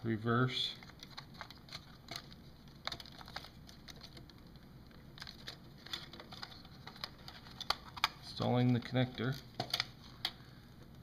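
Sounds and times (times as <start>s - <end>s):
plastic parts clicking and tapping: 0.8s - 10.4s.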